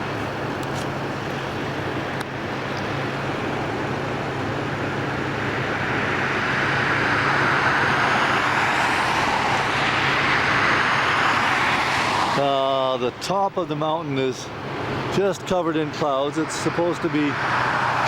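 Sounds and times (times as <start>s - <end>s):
engine hum: 0.0s - 18.0s.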